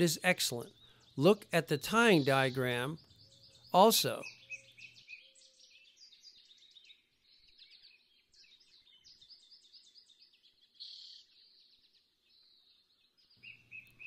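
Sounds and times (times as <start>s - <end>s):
small birds twittering: 0.0s - 14.0s.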